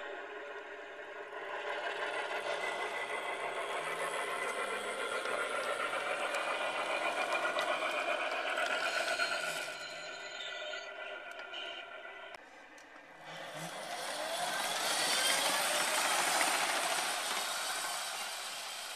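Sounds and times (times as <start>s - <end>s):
diesel locomotive engine running: 0.0s - 18.9s.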